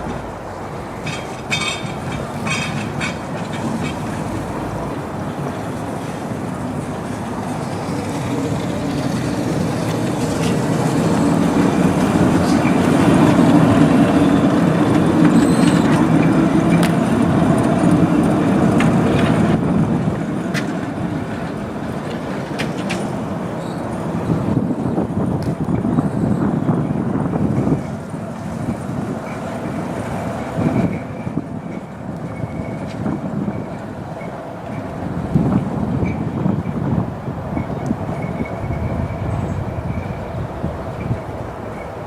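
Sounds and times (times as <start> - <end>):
tram rumbling on rails: 0.0 - 42.0.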